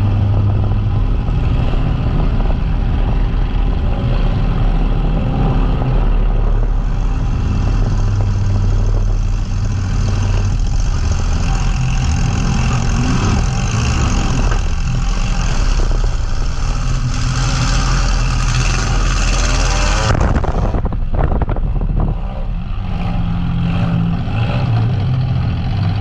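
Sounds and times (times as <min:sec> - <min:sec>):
car engine running hard: 0:00.0 - 0:26.0.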